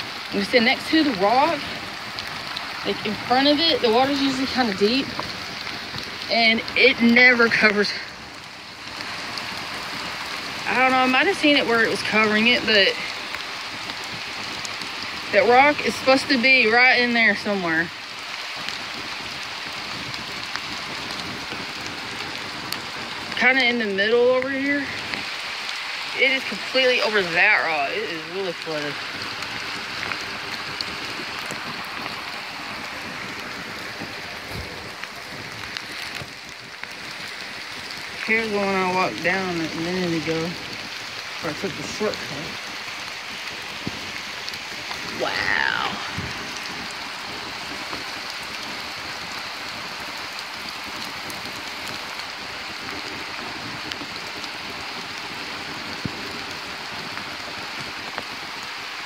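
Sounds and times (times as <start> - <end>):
rain falling: 0.0 - 59.0
rushing creek: 0.0 - 59.0.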